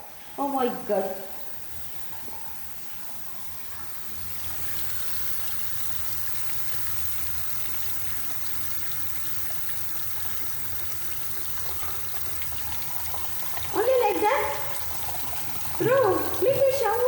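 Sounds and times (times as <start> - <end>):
running water stream: 0.0 - 17.0.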